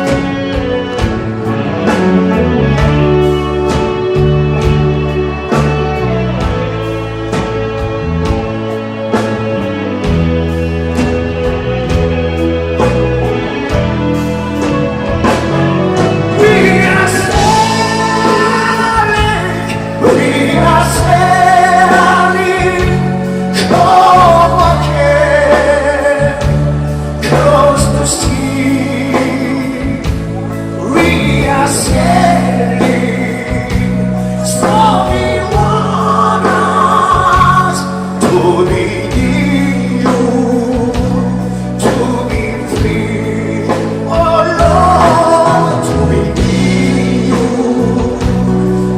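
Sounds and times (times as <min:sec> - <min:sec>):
bass line: 0:00.0 - 0:48.9
live band playing: 0:00.0 - 0:48.9
person singing: 0:00.0 - 0:48.9.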